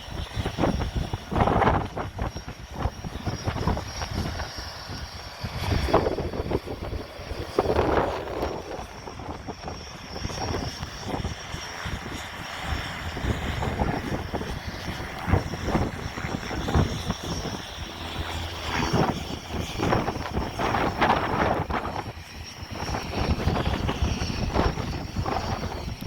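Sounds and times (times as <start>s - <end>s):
propeller aircraft engine rumble: 0.0s - 26.0s.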